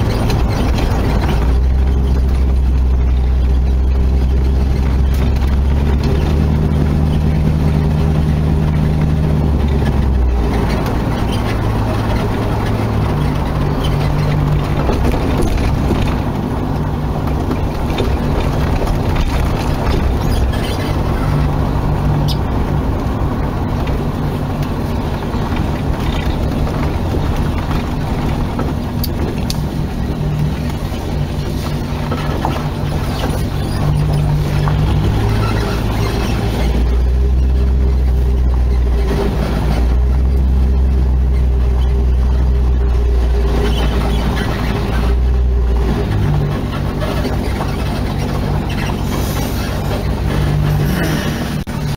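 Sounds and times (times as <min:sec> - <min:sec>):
car engine running: 0:00.0 - 0:51.9
tyres on gravel road: 0:00.0 - 0:51.9
wind noise: 0:00.0 - 0:51.9.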